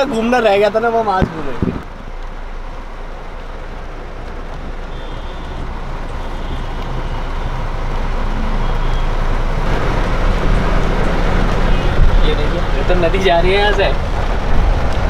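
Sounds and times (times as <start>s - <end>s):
engine rumble of traffic: 0.0s - 15.0s
water washing: 0.0s - 15.0s.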